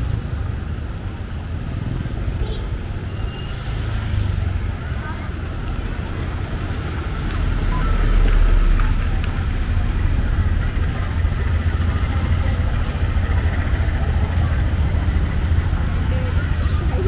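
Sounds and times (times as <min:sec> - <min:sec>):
traffic rumbling past: 0:00.0 - 0:17.0.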